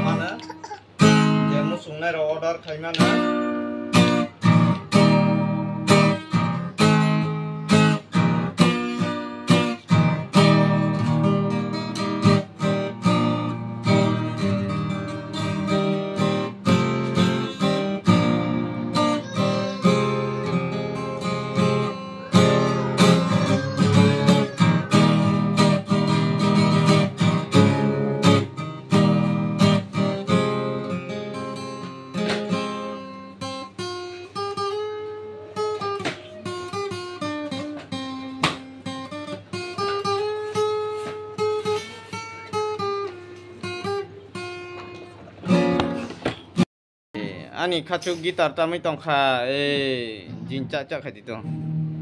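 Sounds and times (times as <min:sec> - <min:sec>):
acoustic guitar strumming: 0:00.0 - 0:46.7, 0:49.6 - 0:52.0.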